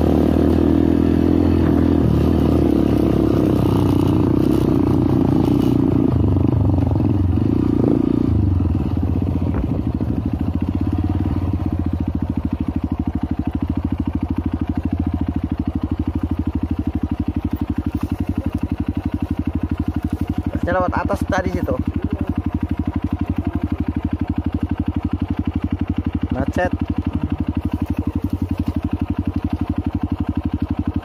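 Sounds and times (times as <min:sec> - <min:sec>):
motorcycle engine chugging: 0:00.0 - 0:31.0.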